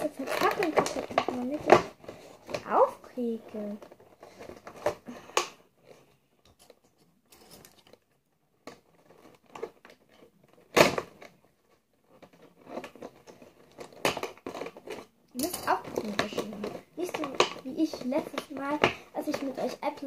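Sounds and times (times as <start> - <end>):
loud plastic crackle: 0.0 - 20.0
packaging crinkling and tearing: 0.0 - 20.0.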